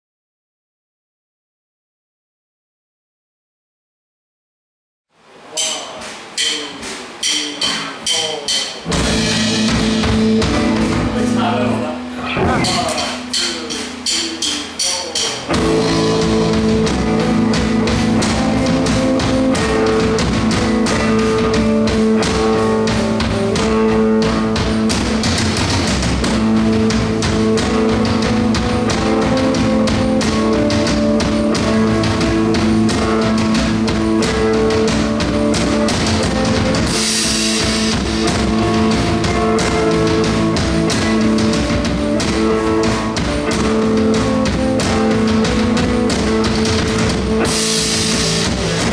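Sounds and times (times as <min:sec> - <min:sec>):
drum hits: 0:05.5 - 0:48.9
rock band playing: 0:06.2 - 0:48.9.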